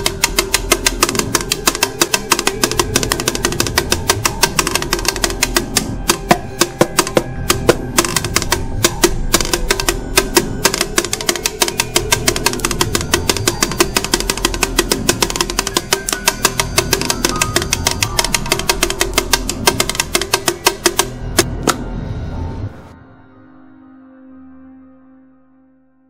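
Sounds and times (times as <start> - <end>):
drumsticks striking a drum: 0.0 - 21.8
music with steady pitched tones: 0.0 - 26.0.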